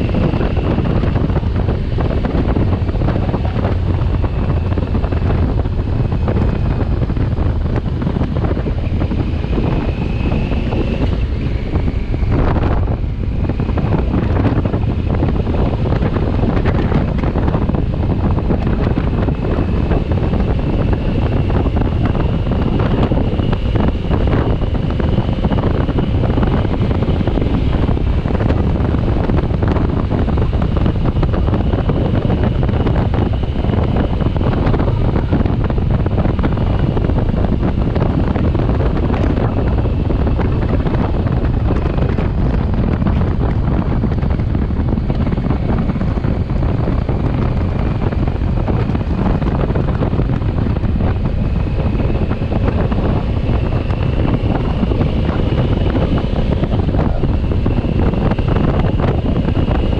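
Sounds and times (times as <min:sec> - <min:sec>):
motorcycle engine running: 0:00.0 - 0:59.9
road noise: 0:00.0 - 0:59.9
wind rushing over microphone: 0:00.0 - 0:59.9.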